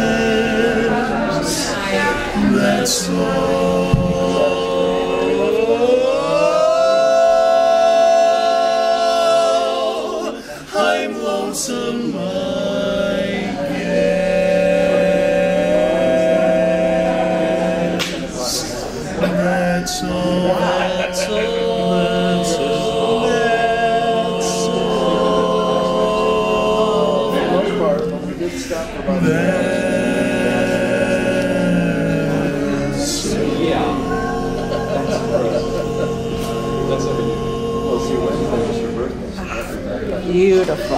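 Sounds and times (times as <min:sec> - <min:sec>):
male quartet singing a cappella: 0:00.0 - 0:40.9.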